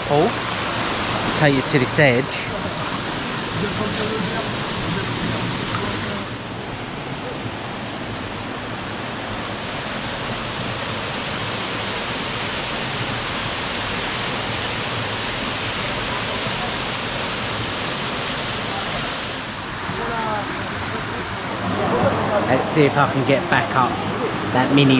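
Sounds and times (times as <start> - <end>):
waterfall pouring into pool: 0.0 - 6.6, 8.8 - 23.8.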